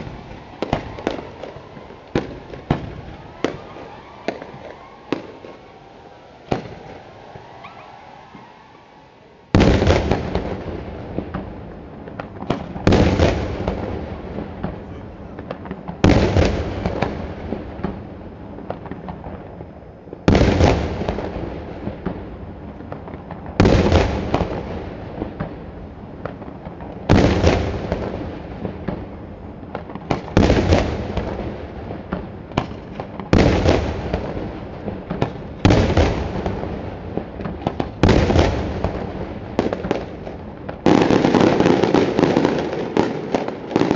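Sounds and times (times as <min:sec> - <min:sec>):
fireworks bangs with echo: 0:00.0 - 0:08.6, 0:09.5 - 0:43.9
small firework cracks: 0:00.0 - 0:08.6, 0:09.5 - 0:43.9.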